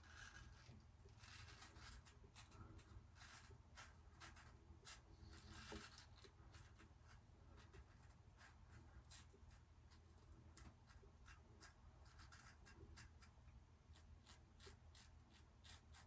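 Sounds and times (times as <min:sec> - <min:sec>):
razor scratching beard stubble: 0:00.0 - 0:16.0.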